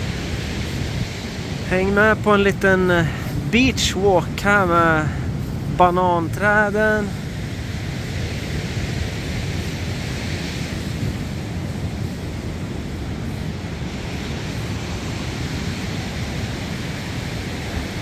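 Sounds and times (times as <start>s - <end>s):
surf washing: 0.0s - 18.0s
wind buffeting microphone: 0.0s - 18.0s.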